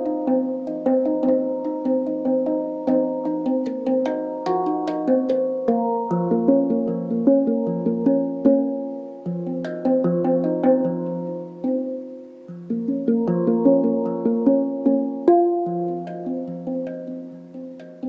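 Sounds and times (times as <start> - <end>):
handpan notes ringing: 0.0 - 18.0.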